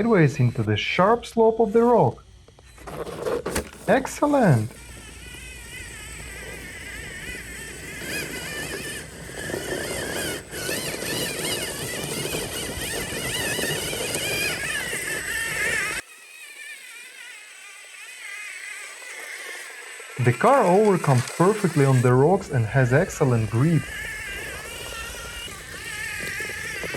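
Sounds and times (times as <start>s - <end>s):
electric motor whine: 0.0s - 26.9s.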